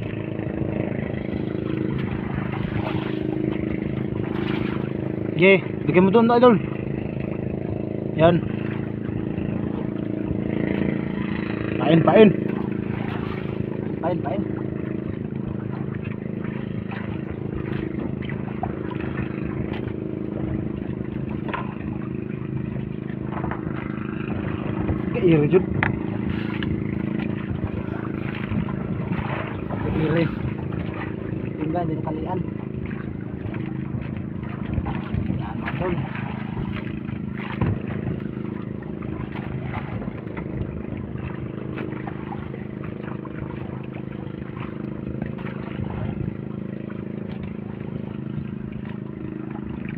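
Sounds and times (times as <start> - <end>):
small boat engine running: 0.0 - 49.9.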